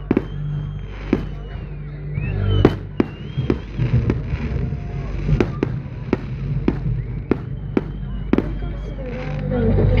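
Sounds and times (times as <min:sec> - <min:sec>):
fireworks bursting bangs: 0:00.0 - 0:01.8, 0:02.5 - 0:09.1
steady low rumble: 0:00.0 - 0:10.0.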